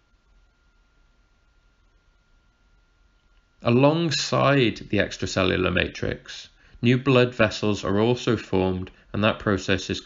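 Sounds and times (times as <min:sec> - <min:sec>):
recording hiss: 0:00.0 - 0:10.0.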